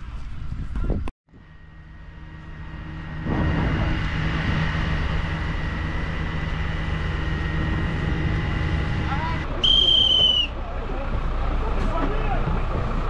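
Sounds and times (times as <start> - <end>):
fire truck engine and water pump: 1.3 - 13.0.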